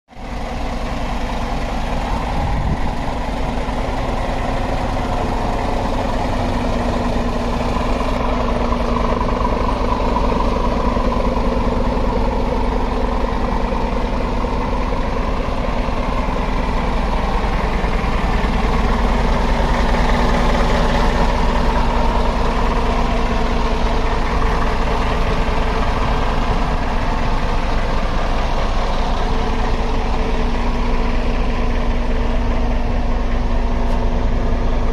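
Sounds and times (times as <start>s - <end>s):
diesel truck idling: 0.1s - 34.9s.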